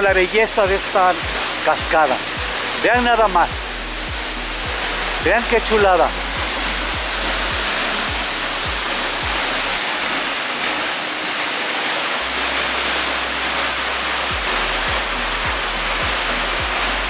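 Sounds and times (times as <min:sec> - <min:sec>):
background music with low beat: 0:00.0 - 0:17.0
waterfall rushing: 0:00.0 - 0:17.0.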